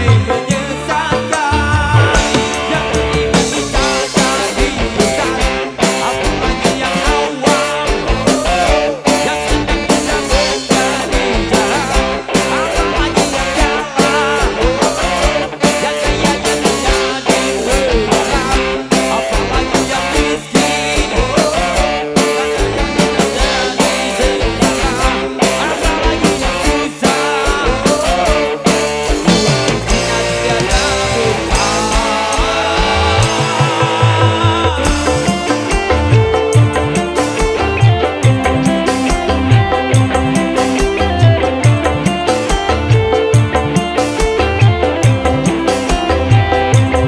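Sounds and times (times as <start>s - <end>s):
drum kit: 0.0s - 47.0s
electric guitars: 0.0s - 47.0s
hand drums: 0.0s - 47.0s
keyboard: 0.0s - 47.0s.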